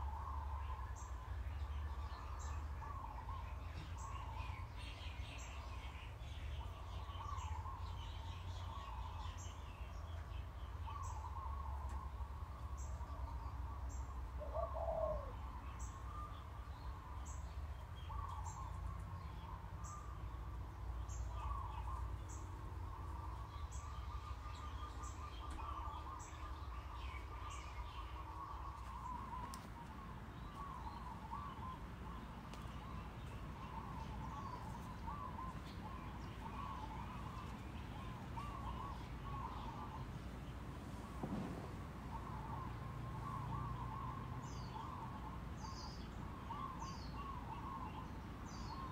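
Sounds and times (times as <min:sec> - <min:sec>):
songbirds chirping: 0:00.0 - 0:48.9.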